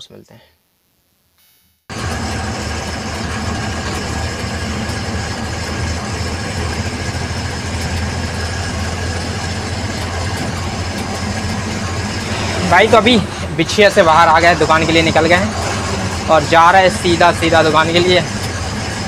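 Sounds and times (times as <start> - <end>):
truck diesel engine running: 1.9 - 19.0.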